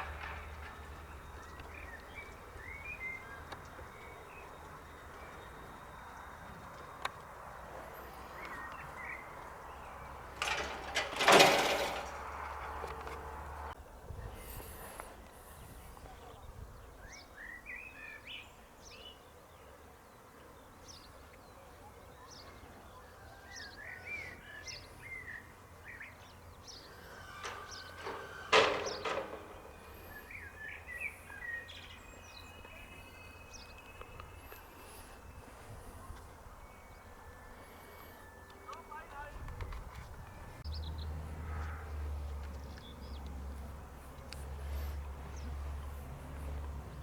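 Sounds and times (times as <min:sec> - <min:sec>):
small birds singing and chirping: 0:00.0 - 0:10.6, 0:13.8 - 0:41.2, 0:41.9 - 0:47.0.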